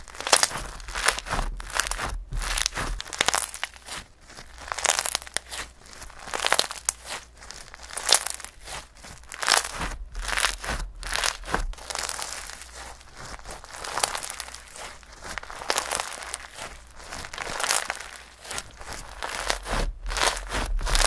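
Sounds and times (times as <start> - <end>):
slime crinkling and crackling: 0.0 - 21.0.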